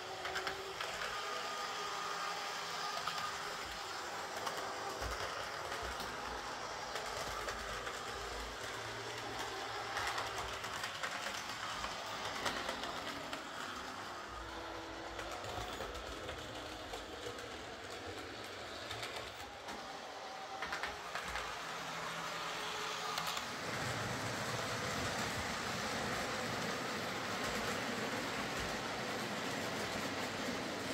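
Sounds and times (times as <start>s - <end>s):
model train motor hum: 0.0s - 30.9s
wheels clicking on rails: 0.0s - 30.9s.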